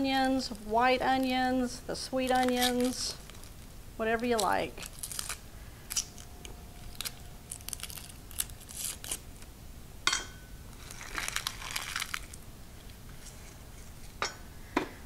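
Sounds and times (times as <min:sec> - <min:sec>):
onion skins crackling: 0:00.0 - 0:09.6, 0:10.7 - 0:14.2.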